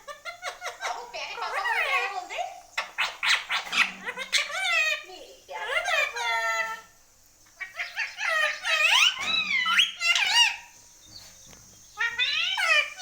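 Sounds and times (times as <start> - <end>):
parrot calling and chattering: 0.0 - 10.8, 11.9 - 13.0.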